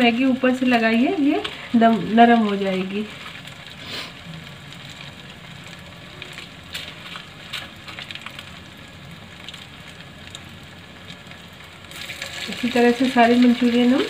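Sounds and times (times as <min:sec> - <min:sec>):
hot oil sizzling: 0:00.0 - 0:14.0
oil crackling and popping: 0:00.0 - 0:14.0.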